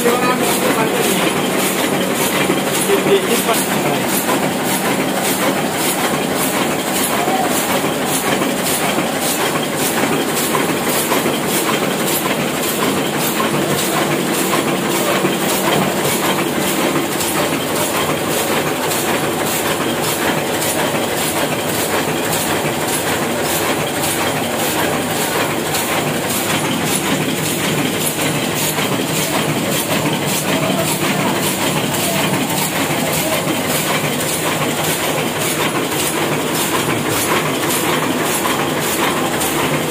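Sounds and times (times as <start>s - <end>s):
printing press clattering: 0.0s - 39.9s.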